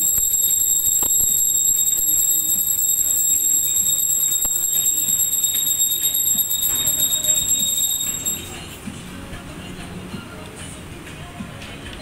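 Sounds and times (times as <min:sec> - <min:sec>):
faint background murmur: 0:01.5 - 0:12.0.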